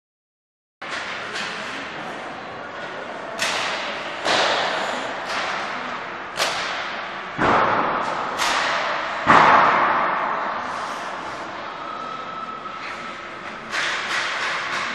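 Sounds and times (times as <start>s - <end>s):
hockey pucks banging boards: 0.8s - 11.2s, 12.8s - 14.9s.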